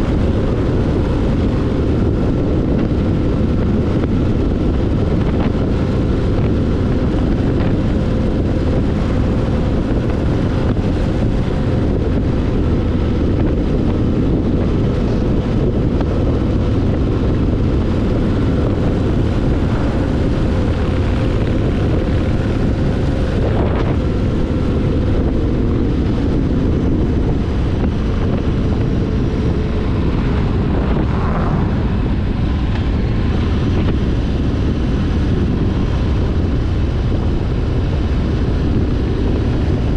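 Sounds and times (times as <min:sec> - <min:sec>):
motorcycle engine humming: 0:00.0 - 0:39.9
wind rumble on microphone: 0:00.0 - 0:39.9.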